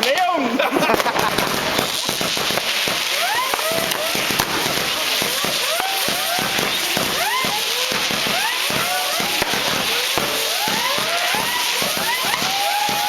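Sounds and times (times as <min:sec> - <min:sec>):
fireworks cracking and popping: 0:00.0 - 0:13.0
fireworks whistling: 0:00.0 - 0:13.0.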